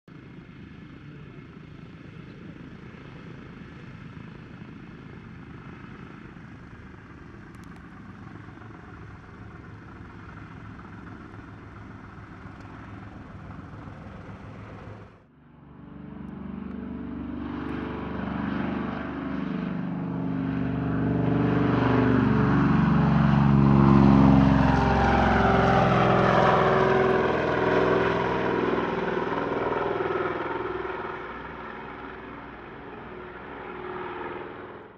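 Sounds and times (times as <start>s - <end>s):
propeller engines running: 0.1s - 34.9s
propeller plane flying past: 0.1s - 34.9s.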